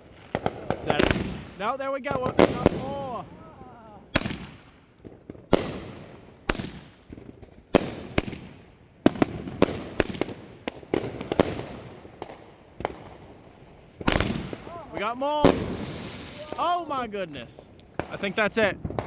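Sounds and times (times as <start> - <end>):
fireworks crackling: 0.0 - 19.0
fireworks exploding: 0.0 - 19.0.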